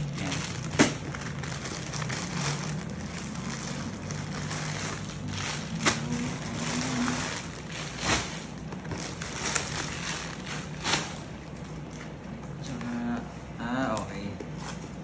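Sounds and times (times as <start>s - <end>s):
plastic bags rustling: 0.0s - 12.2s.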